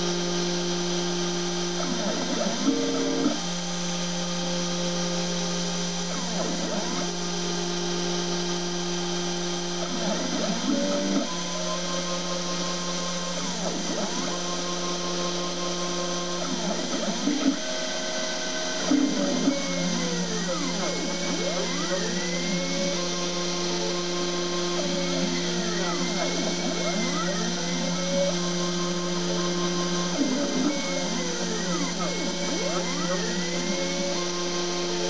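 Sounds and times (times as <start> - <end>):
spindle whine: 0.0 - 35.0
stepper motor tones: 0.0 - 35.0.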